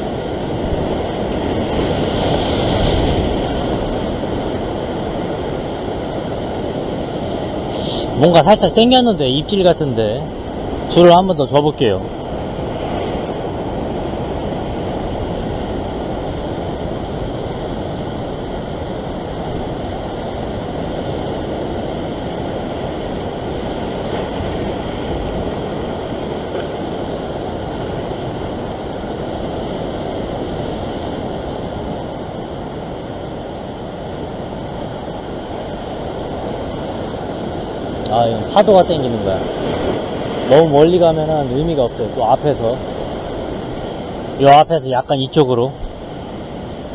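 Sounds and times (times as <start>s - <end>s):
ocean surf on rocks: 0.0s - 46.9s.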